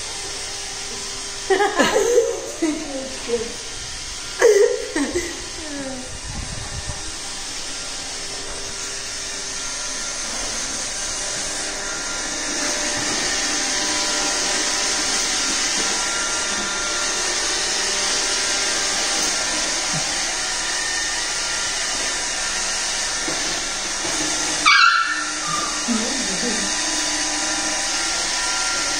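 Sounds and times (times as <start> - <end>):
robot vacuum whirring: 0.0 - 28.9.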